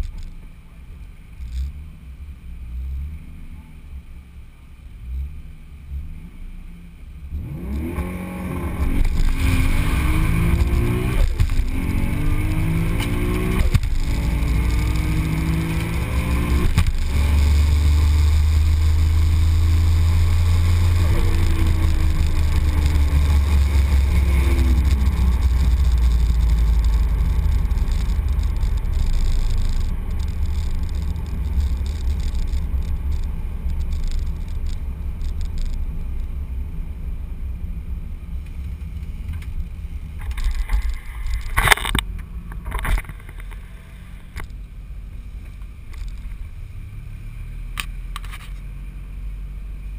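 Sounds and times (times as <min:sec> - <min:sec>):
road and wind noise: 0:00.0 - 0:49.9
car engine accelerating: 0:05.0 - 0:49.9.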